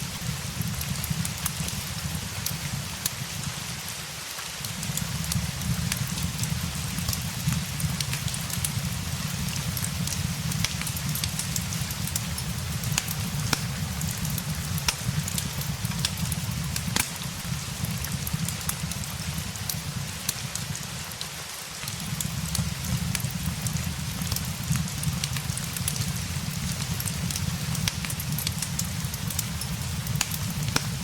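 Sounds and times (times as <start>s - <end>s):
fireplace crackling: 0.0s - 31.0s
steady rain: 0.0s - 31.0s.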